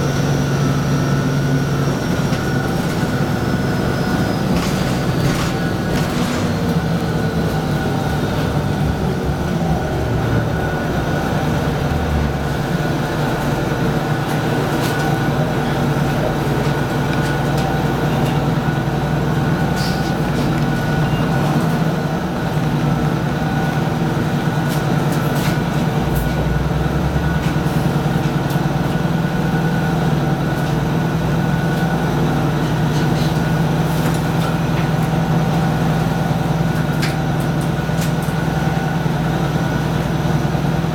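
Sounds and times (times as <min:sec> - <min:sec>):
diesel bus engine running: 0:00.0 - 0:40.9.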